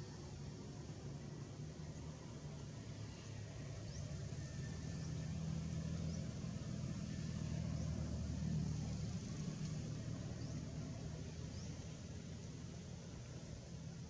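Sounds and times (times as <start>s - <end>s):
distant motor vehicle rumble: 0.0s - 14.0s.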